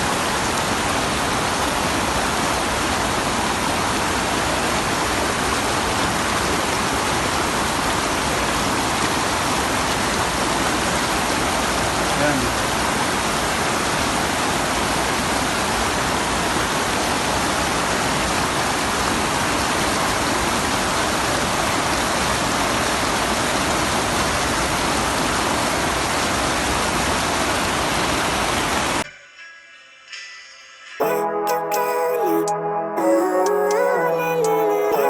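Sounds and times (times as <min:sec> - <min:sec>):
waterfall rushing water: 0:00.0 - 0:29.0.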